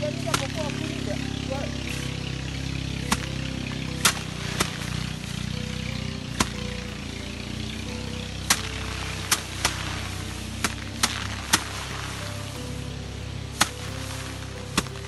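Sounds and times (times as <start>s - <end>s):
rice stalks whacking on wood: 0.0s - 7.1s, 8.4s - 12.9s, 13.5s - 15.0s
background music: 0.0s - 15.0s.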